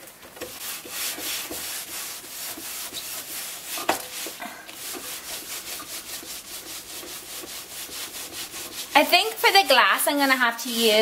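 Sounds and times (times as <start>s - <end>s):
cloth wiping glass: 0.5s - 9.7s.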